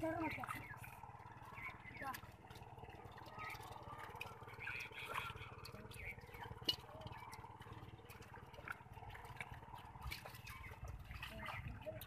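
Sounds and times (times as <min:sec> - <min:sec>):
wet squelching in mud: 0:00.2 - 0:12.0.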